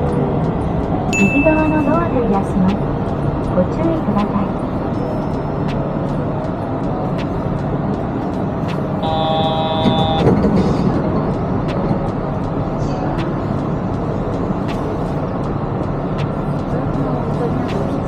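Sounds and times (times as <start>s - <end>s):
steady tone: 0.0s - 16.1s
train car running noise: 0.0s - 18.0s.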